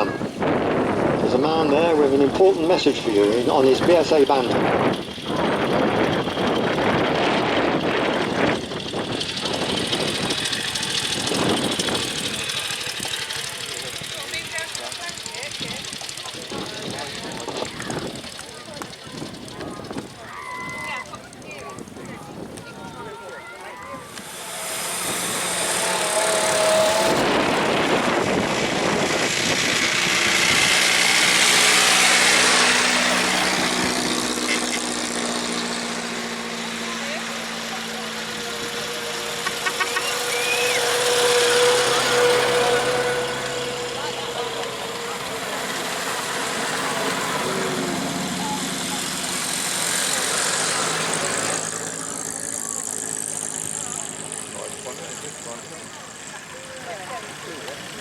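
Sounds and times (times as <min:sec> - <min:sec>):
vehicle engine driving past: 0:00.0 - 0:21.6, 0:22.8 - 0:58.0.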